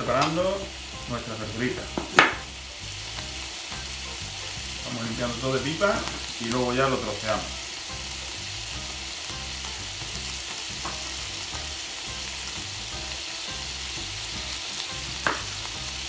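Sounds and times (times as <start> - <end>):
beef sizzling in hot oil: 0.0 - 16.0.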